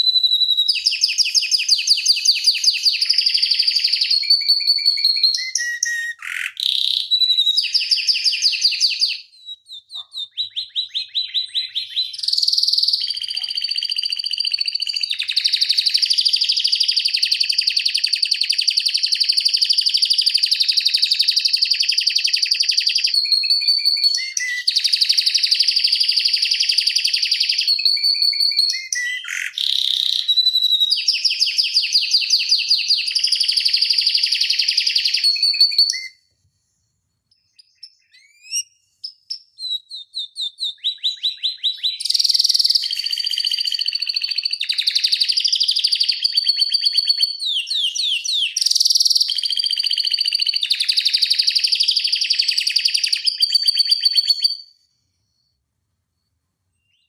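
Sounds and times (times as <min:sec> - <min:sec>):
canary singing trills: 0:00.0 - 0:36.2, 0:37.3 - 0:54.8.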